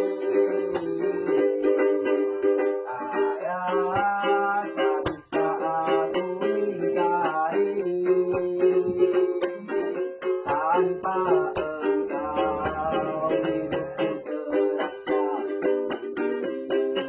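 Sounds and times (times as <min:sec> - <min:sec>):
bending melody line: 0:00.0 - 0:16.9
plucked strings strumming chords: 0:00.0 - 0:17.0.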